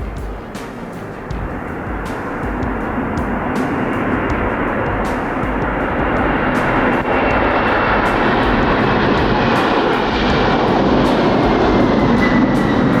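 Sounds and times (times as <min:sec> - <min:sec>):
aircraft engines running: 0:00.0 - 0:13.0.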